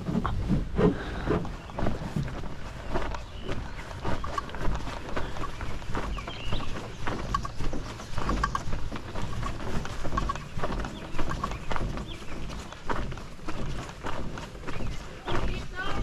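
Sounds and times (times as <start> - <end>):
bird chirping: 0.0 - 16.0
wind rumble on microphone: 0.0 - 16.0.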